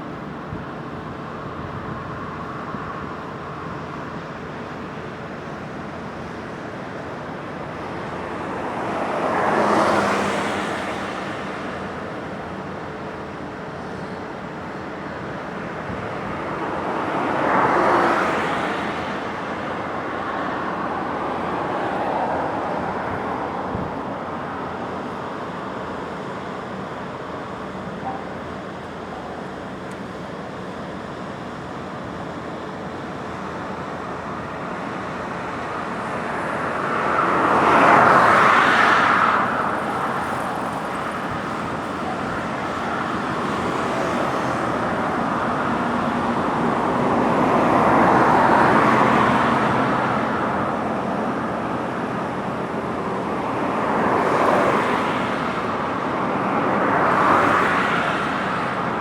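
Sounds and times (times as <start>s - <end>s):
steady traffic hum: 0.0s - 59.0s
vehicles passing: 0.0s - 59.0s.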